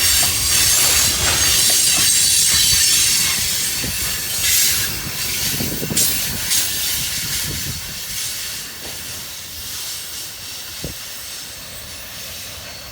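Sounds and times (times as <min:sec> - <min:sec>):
train wheels hissing on rail: 0:00.0 - 0:12.9.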